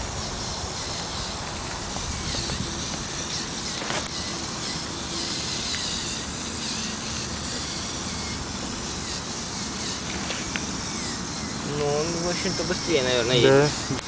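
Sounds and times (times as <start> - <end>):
outdoor noise: 0.0 - 14.0
small electric motors running: 0.0 - 14.0.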